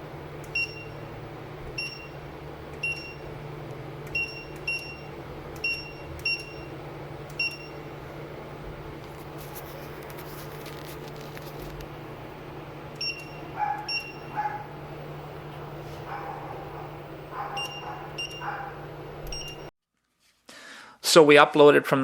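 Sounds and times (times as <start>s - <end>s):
electrical hum: 0.0s - 19.7s.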